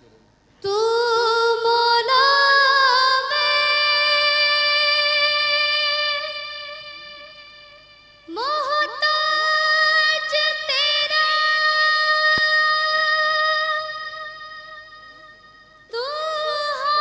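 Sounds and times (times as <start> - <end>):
woman singing a hymn: 0.6 - 15.0, 15.9 - 17.0.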